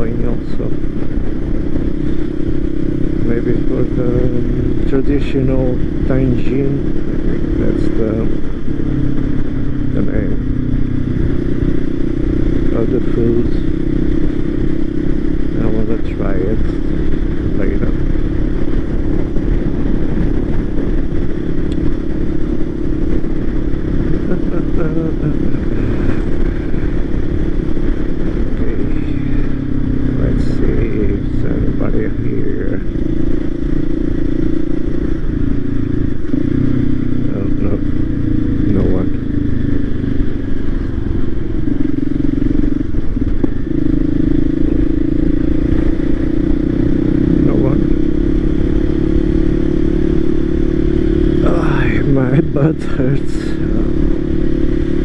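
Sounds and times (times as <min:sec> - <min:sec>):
low rumble: 0:00.0 - 0:55.0
motorcycle engine cruising: 0:00.0 - 0:55.0
road noise: 0:00.0 - 0:55.0.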